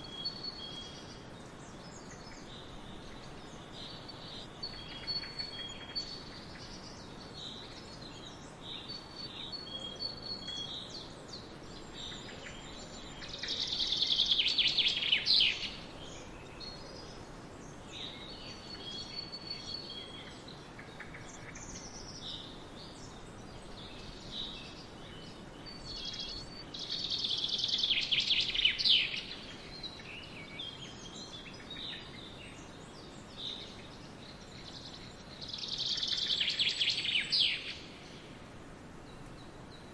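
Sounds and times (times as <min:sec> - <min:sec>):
faint background noise: 0:00.0 - 0:39.9
wild birds chirping and singing: 0:00.0 - 0:39.9.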